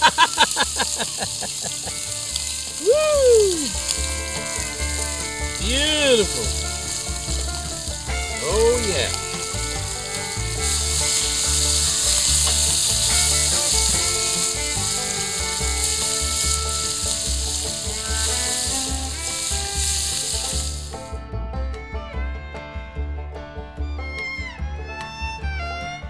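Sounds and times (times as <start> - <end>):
food sizzling on metal lid: 0.0 - 21.1
fiddle music with steady beat: 0.0 - 26.0.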